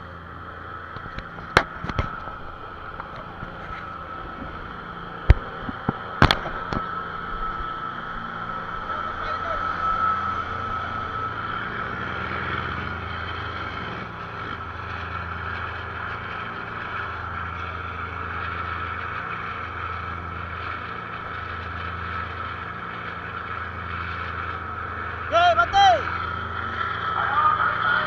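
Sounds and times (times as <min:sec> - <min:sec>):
boat engine running: 0:00.0 - 0:28.0
steady whine: 0:00.0 - 0:28.0.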